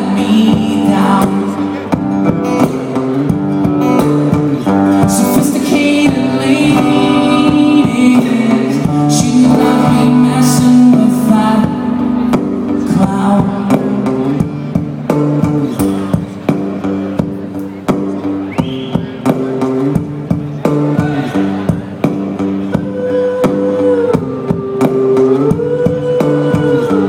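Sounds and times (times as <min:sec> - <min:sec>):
man singing: 0:00.0 - 0:16.4, 0:20.6 - 0:27.0
guitar: 0:00.0 - 0:27.0.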